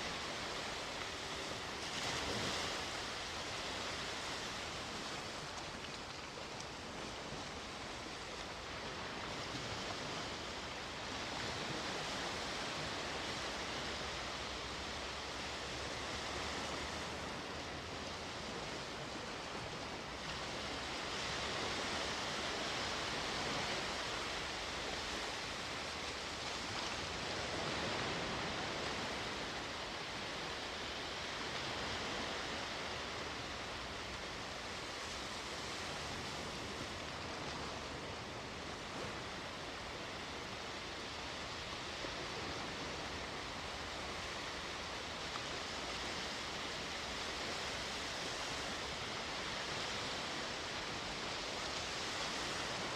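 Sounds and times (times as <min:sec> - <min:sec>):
sea waves washing ashore: 0:00.0 - 0:52.9.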